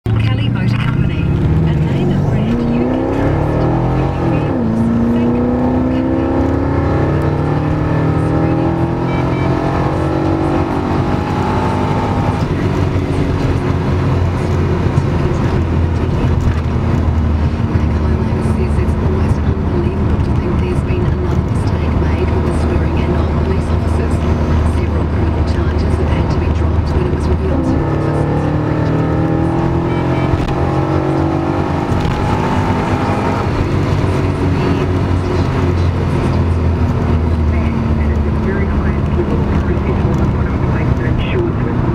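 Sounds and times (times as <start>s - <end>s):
car engine revving from inside cabin: 0.4s - 41.9s.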